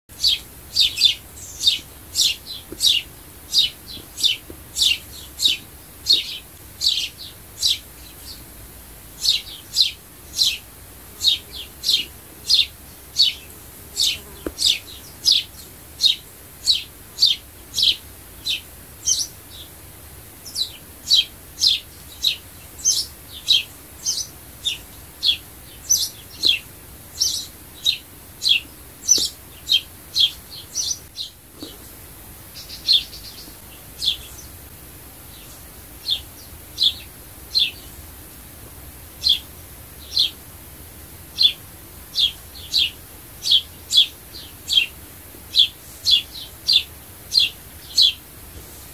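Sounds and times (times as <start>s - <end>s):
sparrow chirping: 0.1s - 8.6s, 9.2s - 19.7s, 20.4s - 34.6s, 35.2s - 38.0s, 39.2s - 40.4s, 41.3s - 48.9s.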